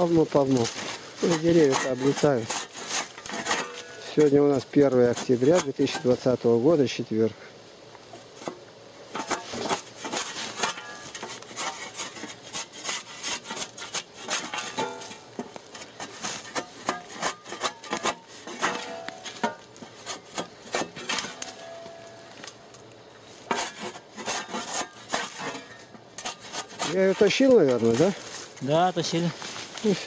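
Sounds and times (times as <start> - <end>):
dry branches and leaves rustling: 0.0 - 30.0.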